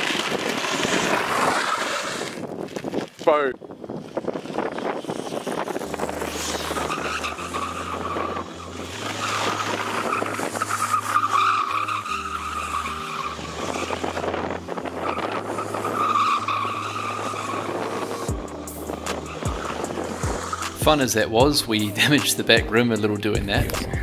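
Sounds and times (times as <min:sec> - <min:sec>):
go-kart tyres squealing: 0:00.0 - 0:23.2.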